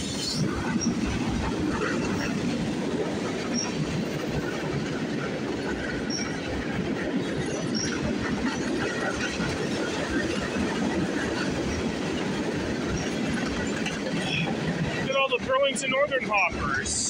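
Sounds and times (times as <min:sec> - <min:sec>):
freight train rolling past: 0:00.0 - 0:17.0
wheels clattering over rails: 0:00.0 - 0:17.0.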